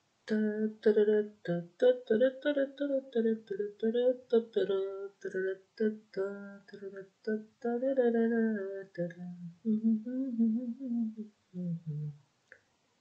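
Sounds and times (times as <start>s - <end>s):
person humming: 0.3s - 12.2s.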